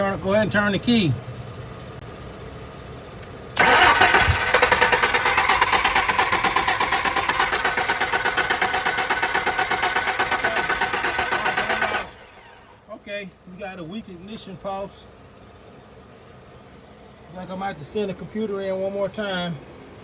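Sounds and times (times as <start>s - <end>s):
car engine cranking: 0.0s - 20.0s.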